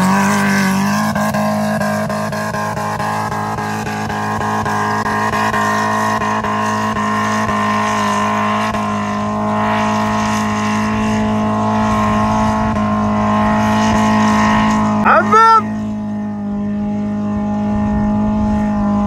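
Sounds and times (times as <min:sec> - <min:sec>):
dune buggy engine running flat out: 0:00.0 - 0:19.0.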